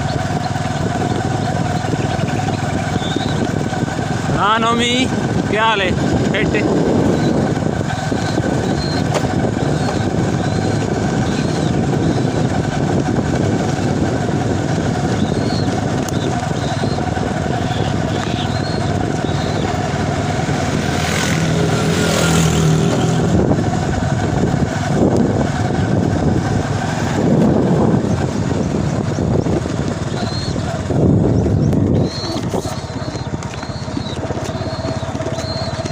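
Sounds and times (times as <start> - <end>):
vehicle engine and road noise: 0.0 - 35.9.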